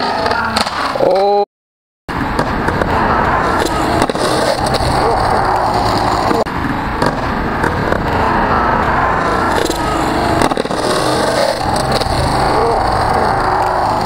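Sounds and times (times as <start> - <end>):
skateboard wheels rolling on asphalt: 2.1 - 14.0.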